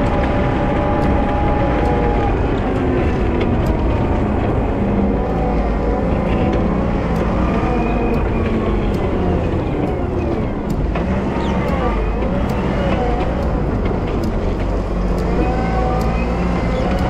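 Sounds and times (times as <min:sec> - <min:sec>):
diesel engine running under load: 0:00.0 - 0:17.0
whining tones: 0:00.0 - 0:17.0.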